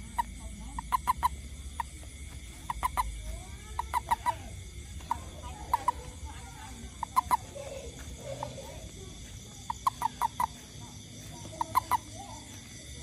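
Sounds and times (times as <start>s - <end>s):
toad clucking chirps: 0.0s - 13.0s.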